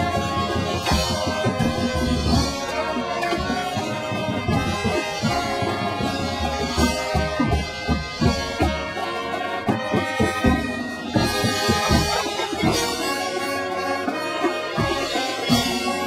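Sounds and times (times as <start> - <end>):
brass horns holding chords: 0.0 - 16.0
drumline drum strokes: 0.0 - 16.0.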